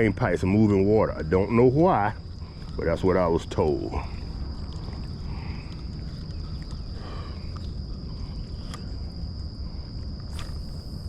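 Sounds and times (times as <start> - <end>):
crickets chirring: 0.0 - 11.0
low rumble: 0.8 - 11.0.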